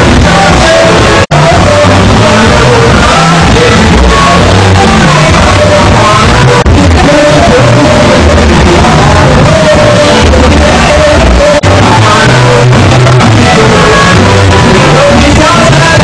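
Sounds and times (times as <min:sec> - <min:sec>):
loud music with singing: 0:00.0 - 0:16.0.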